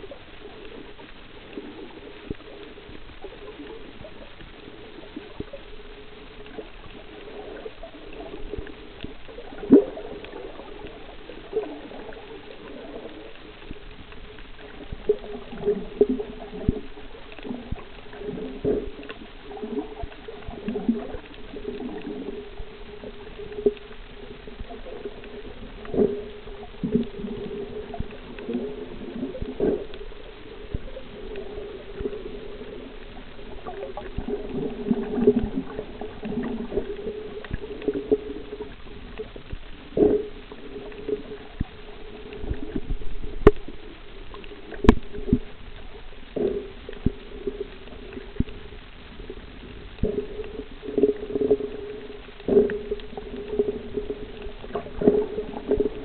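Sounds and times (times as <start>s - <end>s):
muffled underwater hum: 0.0s - 56.0s.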